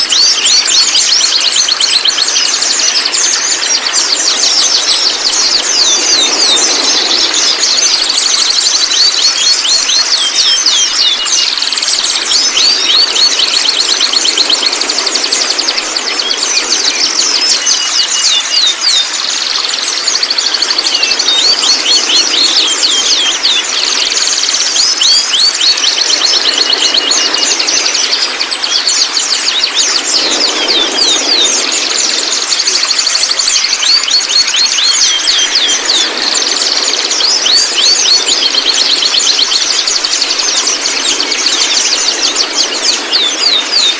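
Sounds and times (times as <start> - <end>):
bird chattering: 1.2 - 43.9.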